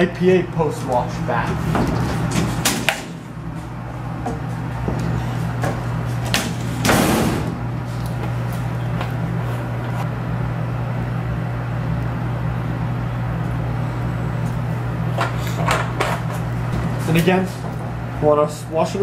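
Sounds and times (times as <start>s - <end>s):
ventilation hum: 0.0s - 19.0s.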